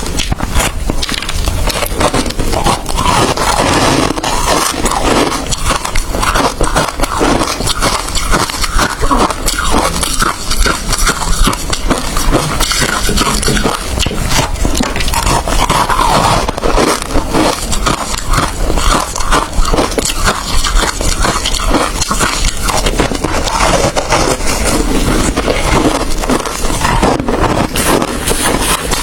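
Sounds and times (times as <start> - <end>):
ice crunched between teeth: 0.0 - 29.0.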